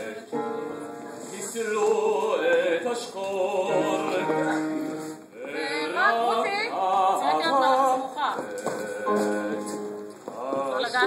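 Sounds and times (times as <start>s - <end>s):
opera voices singing: 0.0s - 11.0s.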